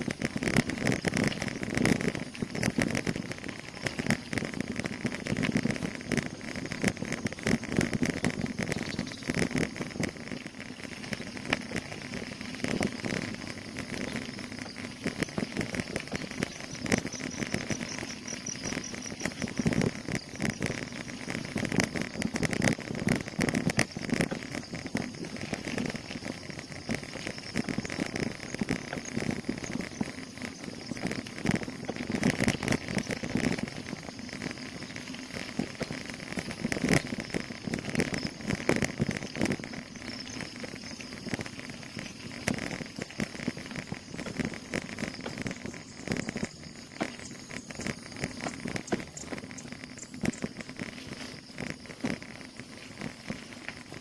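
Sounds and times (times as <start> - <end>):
bicycle rattling on rough road: 0.0 - 54.0
high insect buzz: 0.6 - 54.0.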